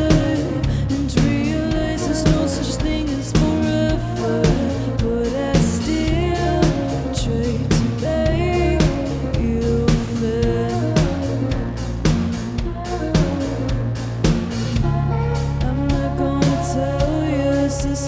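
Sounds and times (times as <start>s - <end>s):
live band playing: 0.0s - 17.8s
person singing: 0.0s - 18.0s.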